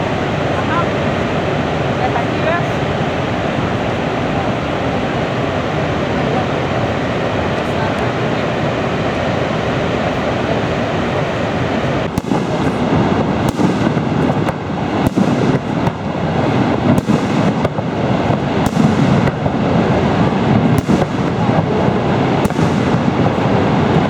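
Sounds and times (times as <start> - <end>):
continuous rushing background: 0.0 - 24.0
fireworks bangs: 0.0 - 24.0.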